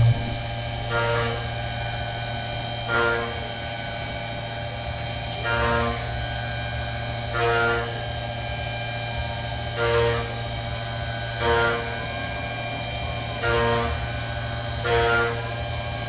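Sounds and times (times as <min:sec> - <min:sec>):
milling machine spindle hum: 0:00.0 - 0:16.0.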